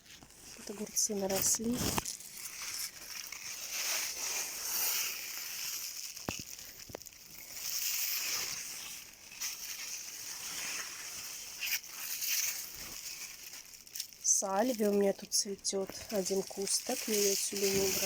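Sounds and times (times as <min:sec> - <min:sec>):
leaves rustling in wind: 0:00.0 - 0:18.0.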